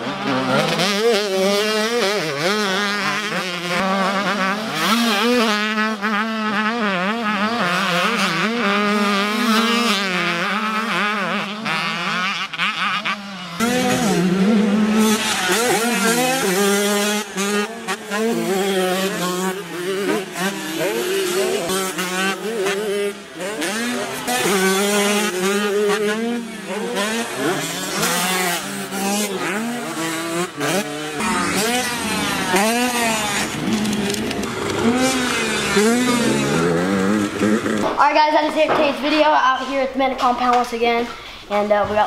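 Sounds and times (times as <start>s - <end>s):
dirt bike engines revving: 0.0s - 42.0s.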